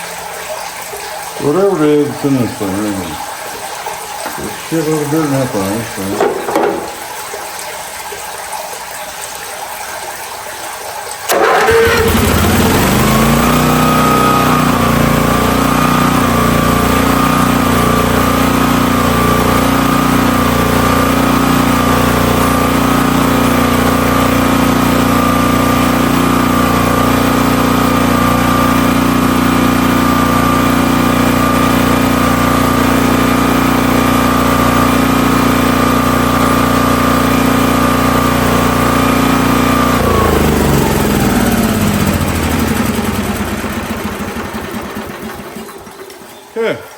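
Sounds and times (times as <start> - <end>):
pressure washer engine running: 1.4 - 3.3, 4.2 - 7.2, 11.3 - 46.8.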